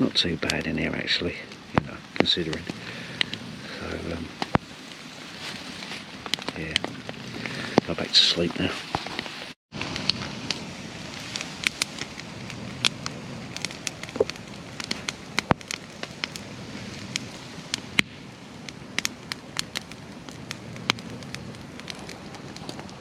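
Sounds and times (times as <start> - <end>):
rain hissing: 0.0 - 23.0
wood fire crackling and popping: 0.0 - 23.0.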